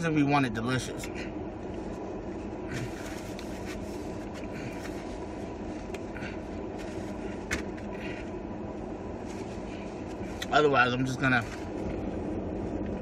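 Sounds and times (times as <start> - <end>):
low rumble inside a car: 0.0 - 13.0.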